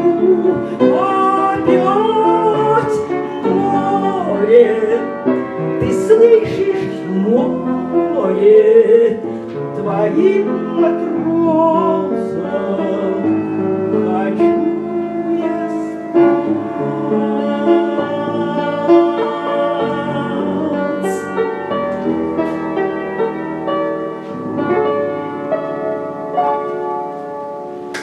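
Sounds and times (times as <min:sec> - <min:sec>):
keyboard playing chords and melody: 0:00.0 - 0:28.0.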